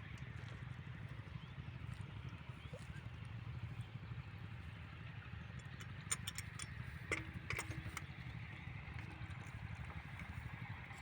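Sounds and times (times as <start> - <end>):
diesel water pump chugging: 0.0 - 11.0.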